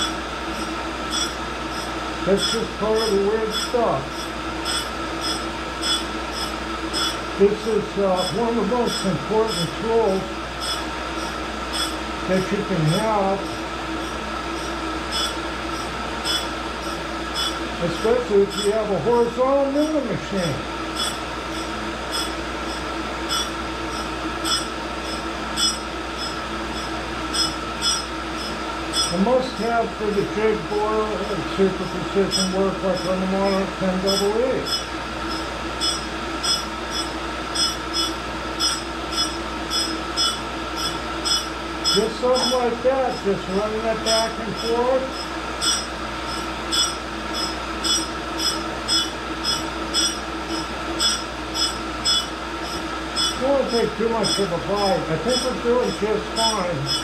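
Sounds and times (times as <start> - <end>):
grinder motor hum: 0.0 - 57.0
high-pitched grinding hiss: 0.0 - 57.0.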